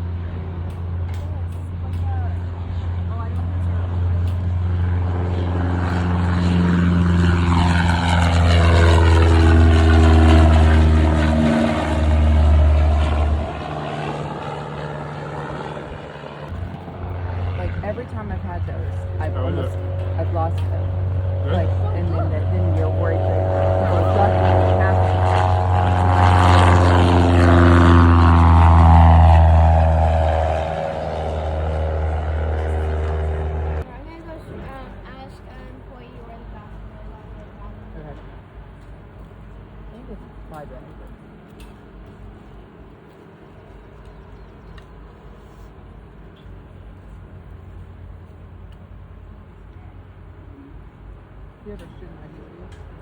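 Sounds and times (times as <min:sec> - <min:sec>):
propeller airplane passing: 0:00.0 - 0:53.0.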